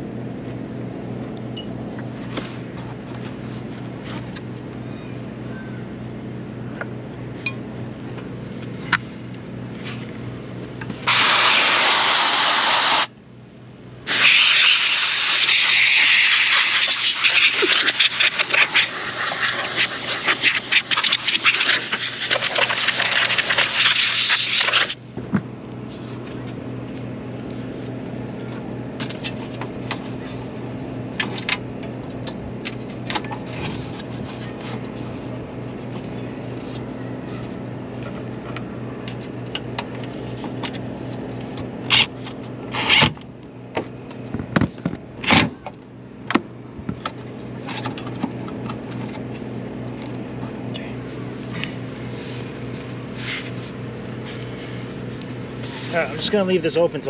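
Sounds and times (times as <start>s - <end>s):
low steady hum: 0.0s - 11.1s, 17.1s - 57.0s.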